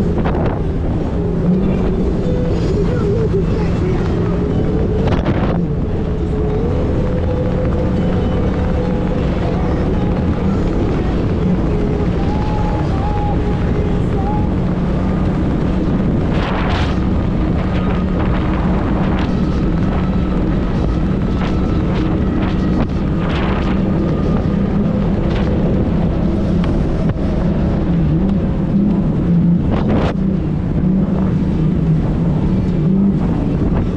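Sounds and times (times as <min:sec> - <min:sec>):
rushing noise: 0:00.0 - 0:33.9
wind noise on microphone: 0:00.0 - 0:33.9.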